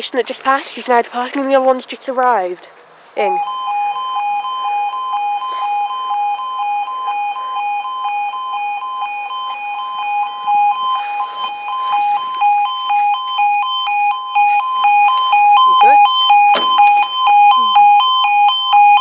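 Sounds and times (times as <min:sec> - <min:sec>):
two-tone crossing alarm: 0:03.2 - 0:19.0.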